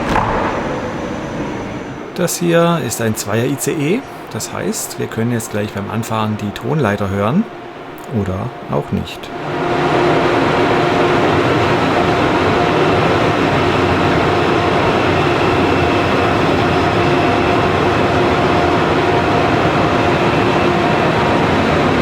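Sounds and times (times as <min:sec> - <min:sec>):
high-speed train running: 0:00.0 - 0:22.0
train whining tones: 0:00.0 - 0:22.0.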